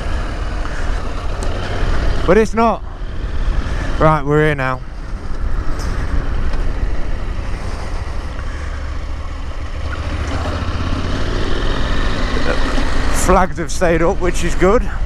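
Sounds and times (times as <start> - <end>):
motorcycle engine idling: 0.0 - 4.0, 4.8 - 15.0.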